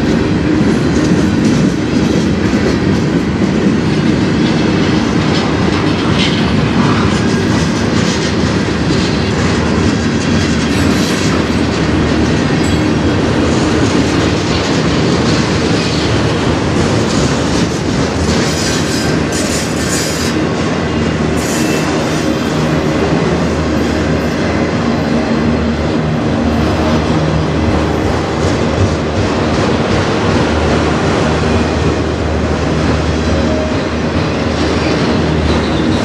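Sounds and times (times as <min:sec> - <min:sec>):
freight train rumbling by: 0:00.0 - 0:36.0.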